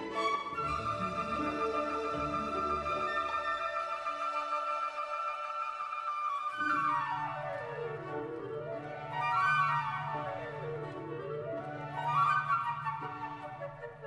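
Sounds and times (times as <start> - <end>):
classical woodwind music: 0.0 - 14.0.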